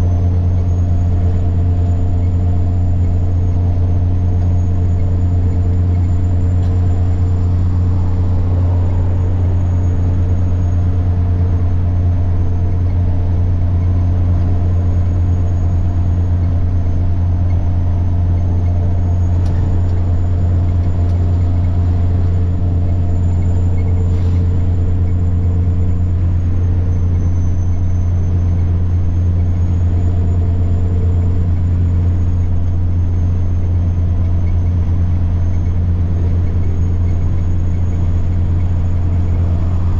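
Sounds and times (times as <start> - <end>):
truck diesel engine droning: 0.0 - 39.9
turbocharger whine: 0.0 - 39.9.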